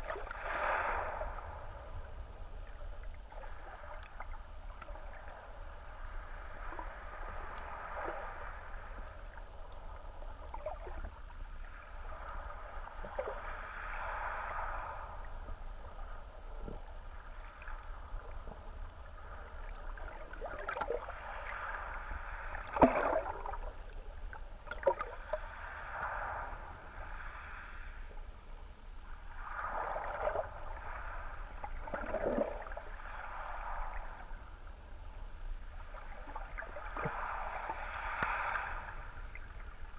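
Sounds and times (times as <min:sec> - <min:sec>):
muffled underwater water rumble: 0:00.0 - 0:39.9
rushes of water: 0:00.0 - 0:39.9.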